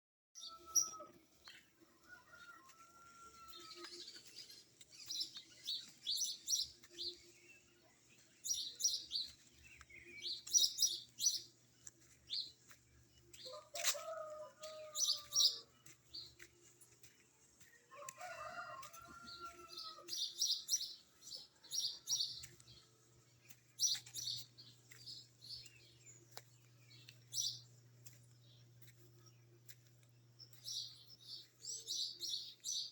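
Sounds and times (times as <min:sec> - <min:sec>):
small birds chirping: 0:00.4 - 0:32.9.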